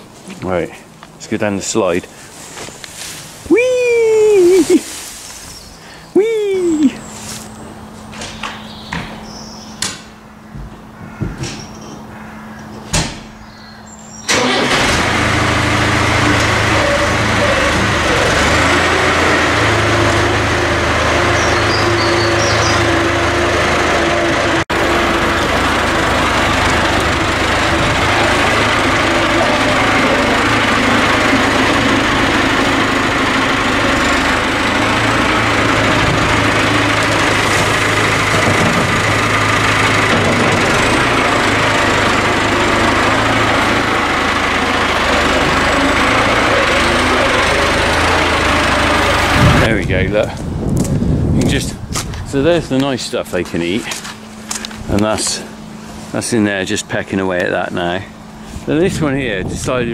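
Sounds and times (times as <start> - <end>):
tractor diesel engine running: 0.0 - 11.2, 13.4 - 59.9.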